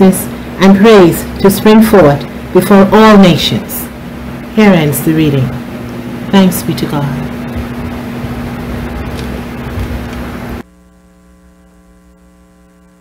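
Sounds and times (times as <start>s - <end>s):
faint mains hum: 0.0s - 13.0s
loud hiss with low tone: 0.0s - 13.0s.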